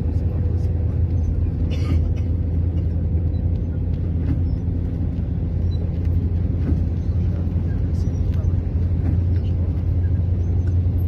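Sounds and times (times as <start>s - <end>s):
bus engine rumble and road noise: 0.0s - 11.0s.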